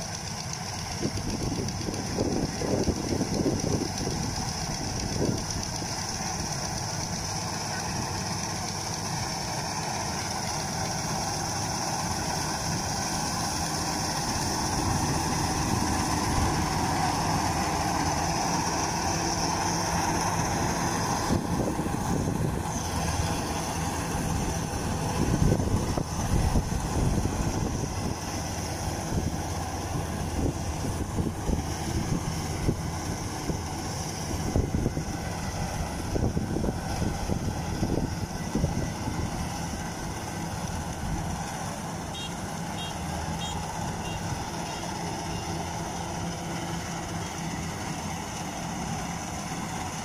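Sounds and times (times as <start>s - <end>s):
diesel engine drone: 0.0s - 50.0s.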